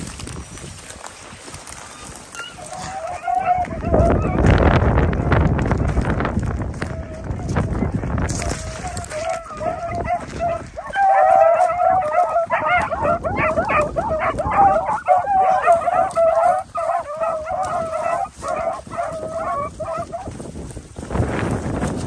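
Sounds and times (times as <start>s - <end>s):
pack of dogs baying: 1.5s - 5.5s, 6.7s - 20.7s.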